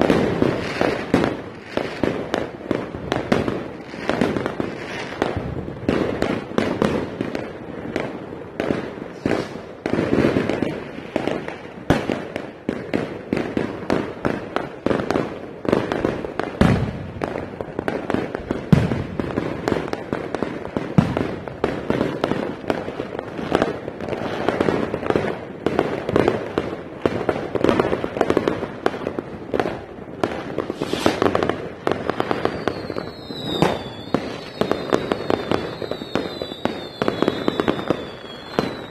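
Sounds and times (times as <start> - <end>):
fireworks banging and crackling: 0.0 - 38.9
whistling fireworks: 0.0 - 38.9.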